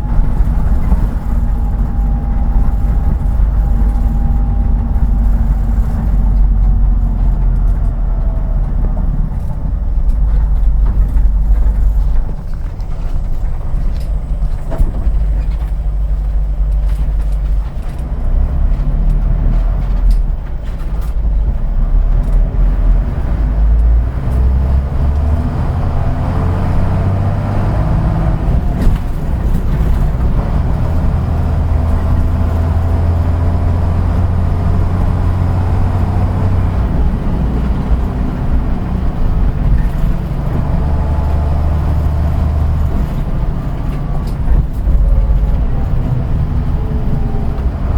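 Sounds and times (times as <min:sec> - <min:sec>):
bus engine hum: 0:00.0 - 0:47.9
drivetrain whine: 0:00.0 - 0:47.9.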